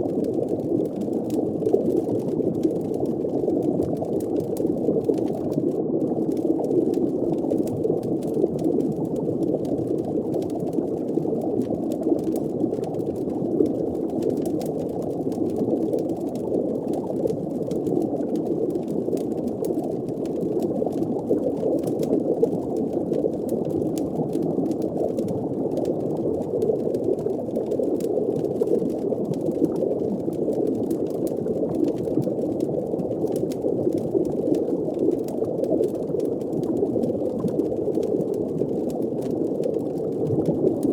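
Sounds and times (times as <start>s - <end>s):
faint fire crackles: 0.0s - 40.9s
underwater bubbling wash: 0.0s - 40.9s.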